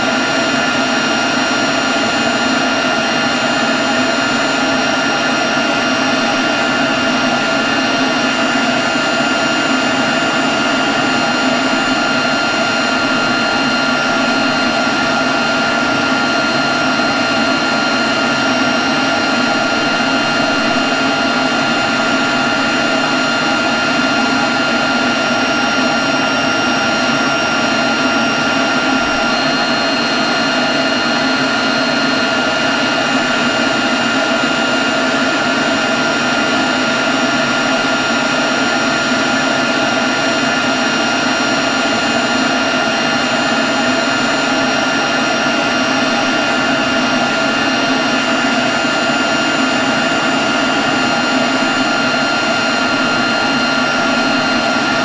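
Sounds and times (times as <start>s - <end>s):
leaf blower whining: 0.0s - 55.0s.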